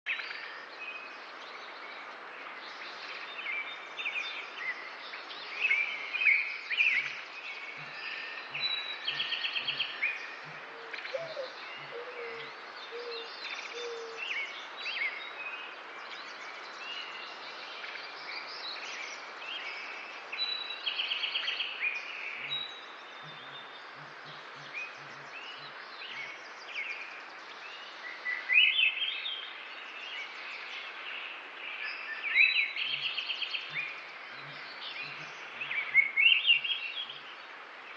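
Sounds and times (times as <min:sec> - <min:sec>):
steady outdoor hiss: 0:00.1 - 0:37.9
wild birds chirping and singing: 0:00.1 - 0:37.9.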